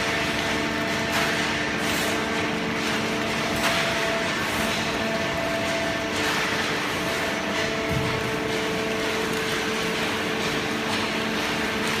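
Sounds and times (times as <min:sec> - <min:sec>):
hydraulic baler humming: 0:00.0 - 0:12.0.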